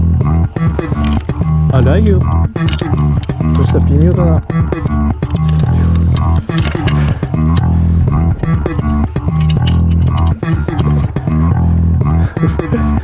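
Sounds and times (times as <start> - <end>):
background music with bass and guitar: 0.0 - 13.0.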